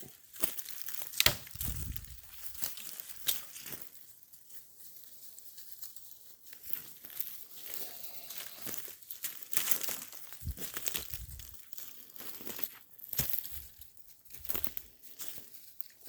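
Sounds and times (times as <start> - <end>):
leaves and twigs crackling underfoot: 0.0 - 16.0.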